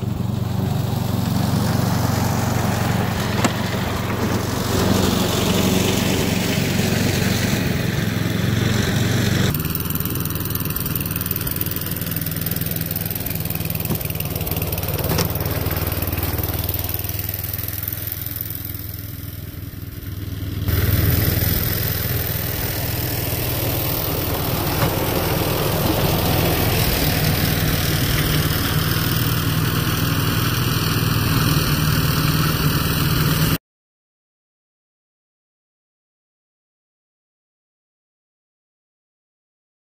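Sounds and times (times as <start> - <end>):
snowblower engine running: 0.0 - 33.6.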